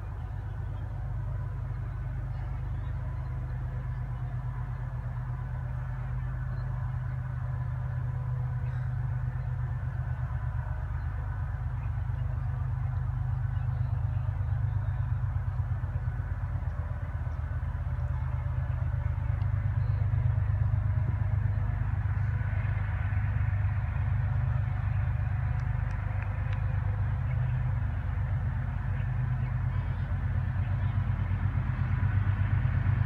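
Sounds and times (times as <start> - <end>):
locomotive engine throbbing: 0.0 - 33.0.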